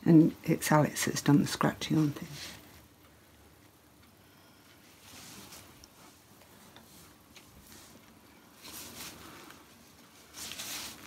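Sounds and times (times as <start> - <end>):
faint handling rustles and ticks: 0.1 - 11.0.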